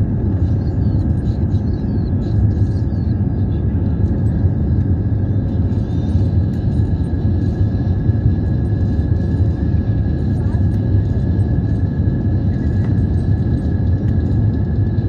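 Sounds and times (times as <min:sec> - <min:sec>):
faint steady whine: 0:00.0 - 0:15.0
jet engines rumbling: 0:00.0 - 0:15.0.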